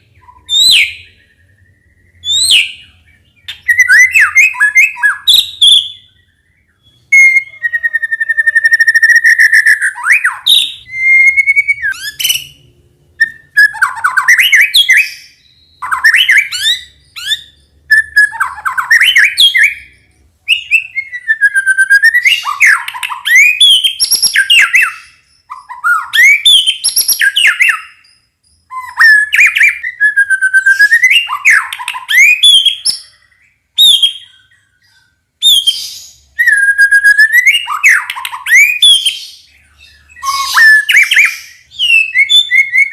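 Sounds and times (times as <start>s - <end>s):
bird whistled song with trills: 0.0s - 42.9s.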